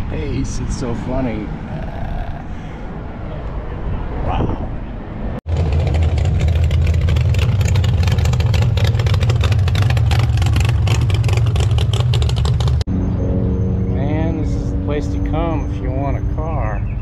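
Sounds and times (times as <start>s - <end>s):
loud car engine rumbling: 0.0s - 17.0s.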